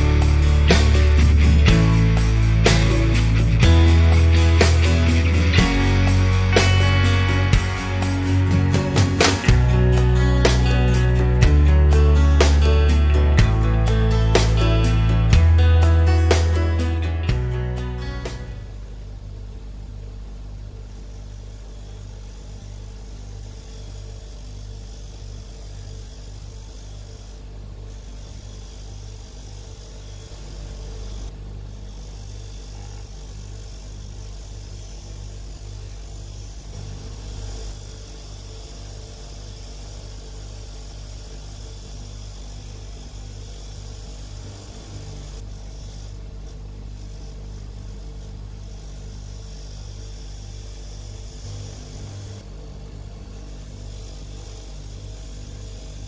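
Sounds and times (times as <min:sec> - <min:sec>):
wire wheel motor humming: 0:00.0 - 0:56.0.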